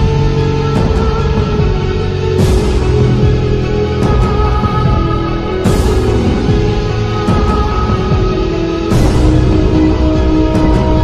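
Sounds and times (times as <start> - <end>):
music with sustained chords: 0.0 - 11.0.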